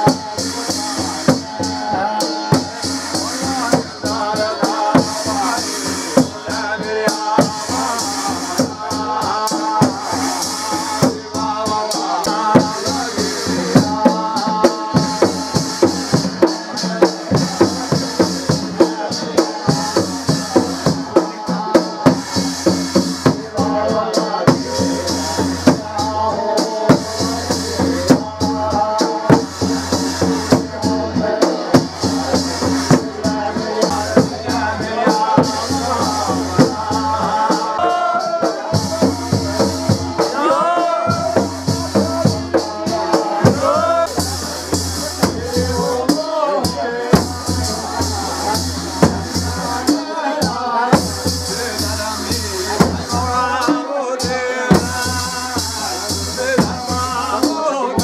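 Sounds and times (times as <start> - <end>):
drum beat: 0.0 - 58.0
voices singing: 0.0 - 58.0.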